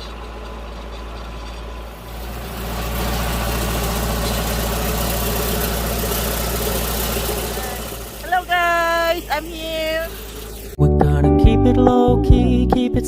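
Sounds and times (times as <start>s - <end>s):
tractor engine running: 0.0s - 12.8s.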